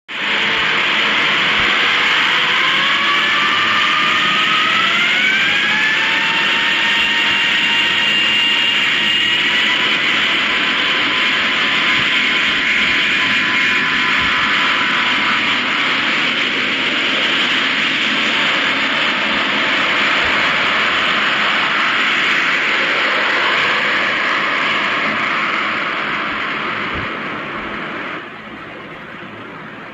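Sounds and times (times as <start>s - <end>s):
jet engines roaring: 0.1s - 29.9s.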